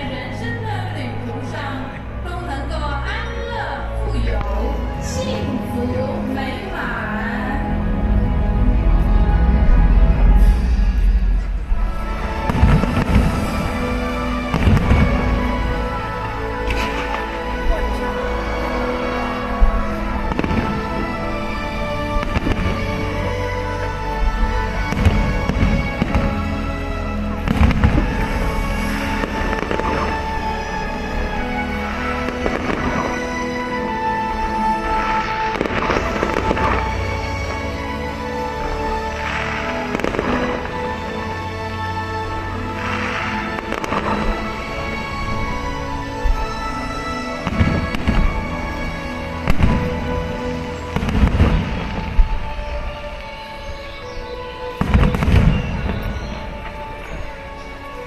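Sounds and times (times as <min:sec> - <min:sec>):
music with held tones: 0:00.0 - 0:58.0
fireworks bursting and crackling: 0:08.7 - 0:53.9, 0:54.6 - 0:58.0.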